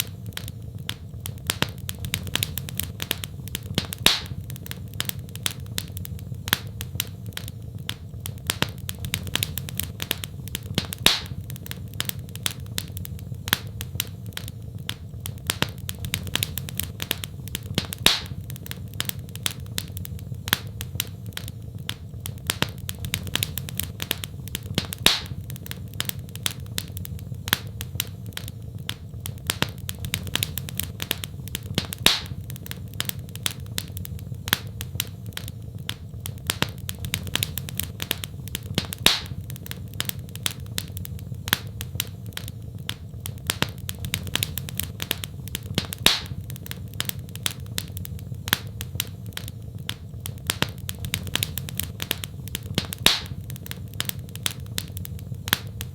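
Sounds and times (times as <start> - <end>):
fireplace fire crackling: 0.0 - 55.9
low rumble of burning fire: 0.0 - 55.9.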